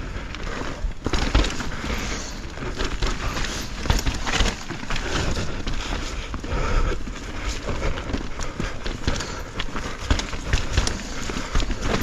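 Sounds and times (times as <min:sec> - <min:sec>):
bike tyres rolling on dirt: 0:00.0 - 0:12.0
bike knocks and rattles: 0:00.4 - 0:12.0.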